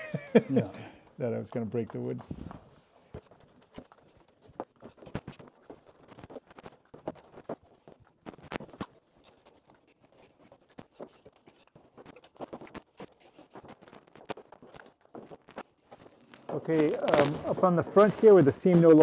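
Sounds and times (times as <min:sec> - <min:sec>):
hands tapping and scraping plywood: 0:01.0 - 0:19.0.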